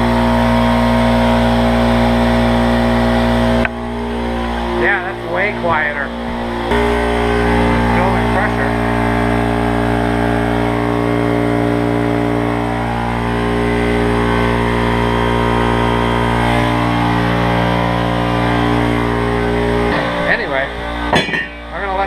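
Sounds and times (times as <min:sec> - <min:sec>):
air compressor pump running: 0:00.0 - 0:22.0.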